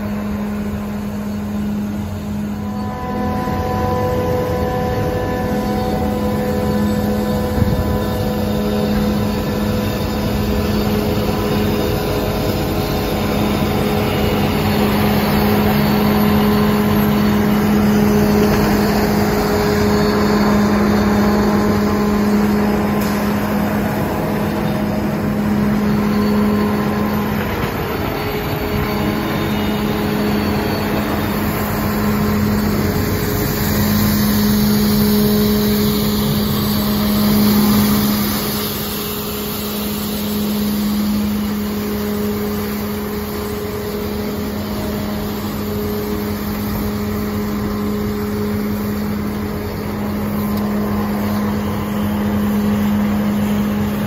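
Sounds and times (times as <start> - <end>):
street sweeper engine and blower hum: 0.0 - 54.0
whining tones: 0.0 - 54.0.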